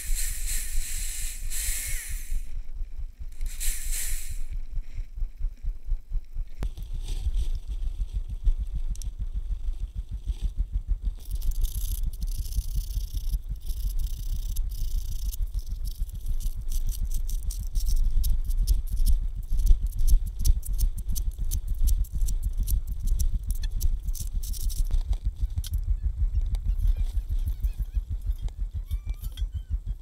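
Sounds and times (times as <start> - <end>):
low rumble: 0.0 - 30.0.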